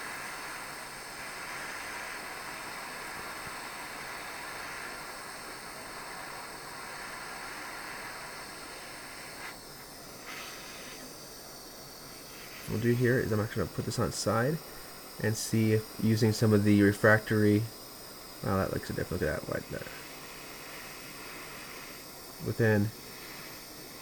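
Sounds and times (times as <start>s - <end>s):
torch flame hissing: 0.0s - 24.0s.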